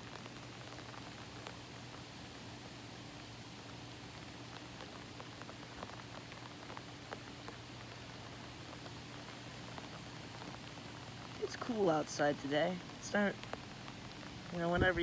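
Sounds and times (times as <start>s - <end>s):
raindrops ticking on surfaces: 0.0s - 15.0s
steady rain: 0.0s - 15.0s.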